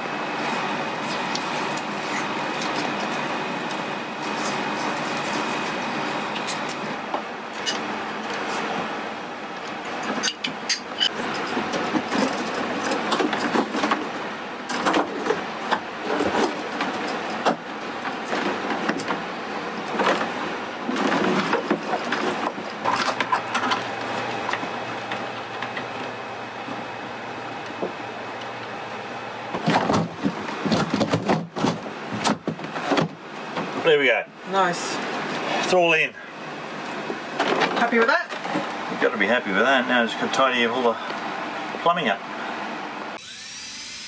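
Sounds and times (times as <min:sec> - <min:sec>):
steady background hum: 0:00.0 - 0:44.0.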